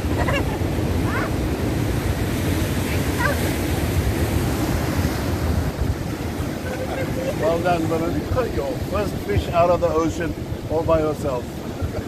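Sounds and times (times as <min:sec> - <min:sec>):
ocean surf churning: 0:00.0 - 0:12.0
wind buffeting microphone: 0:00.0 - 0:12.0.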